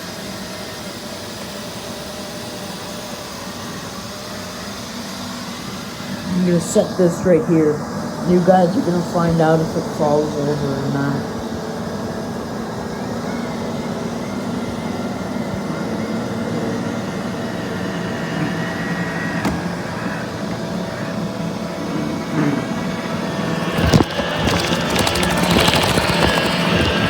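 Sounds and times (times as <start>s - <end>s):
robot vacuum humming: 0.0s - 27.0s.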